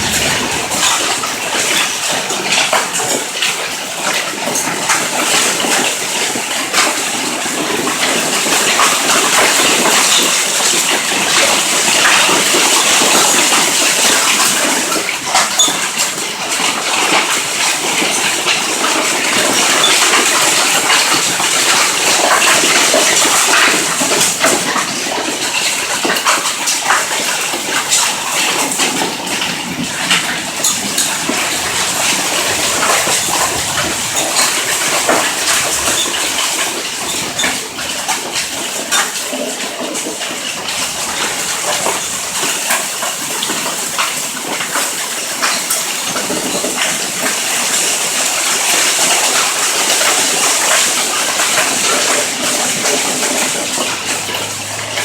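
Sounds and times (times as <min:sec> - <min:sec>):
hail and rain pelting: 0:00.0 - 0:55.0.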